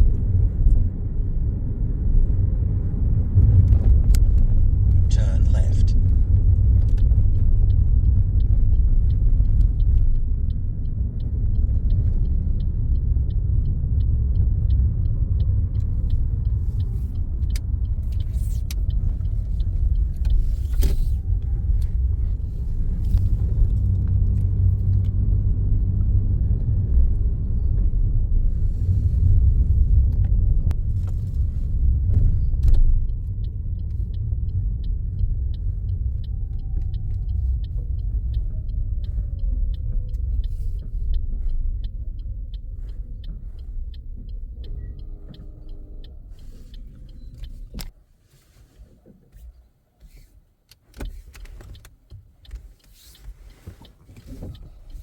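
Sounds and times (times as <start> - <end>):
turn indicator ticking: 0.0 - 48.1, 49.0 - 55.0
car road and engine rumble: 0.0 - 55.0.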